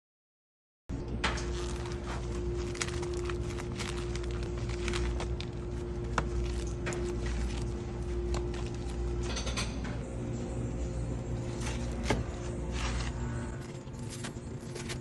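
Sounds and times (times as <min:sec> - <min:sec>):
steady hum and low rumble: 0:00.9 - 0:15.0.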